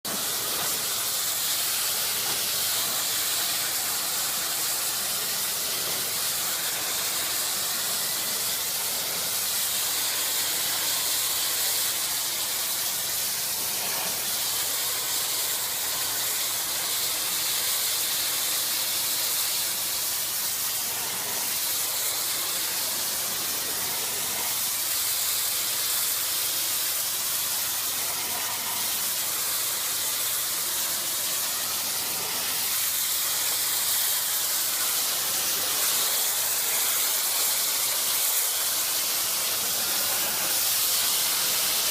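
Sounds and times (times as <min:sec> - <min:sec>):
pressure washer spraying wall: 0:00.0 - 0:41.9.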